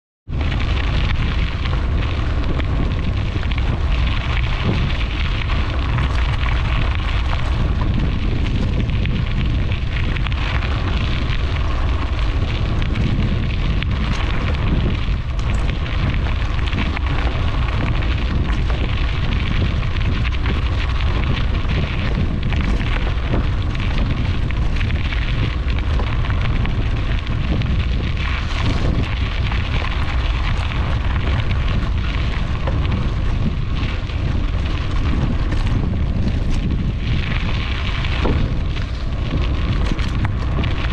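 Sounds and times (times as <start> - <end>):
bicycle tyres rolling on gravel: 0.3 - 40.9
wind buffeting microphone: 0.3 - 40.9.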